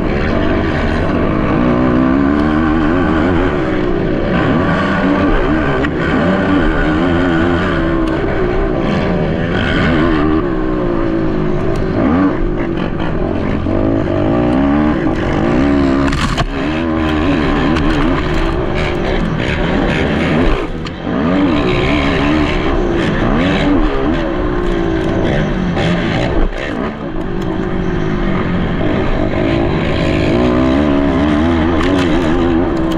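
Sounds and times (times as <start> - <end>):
quad engines revving: 0.0 - 32.9.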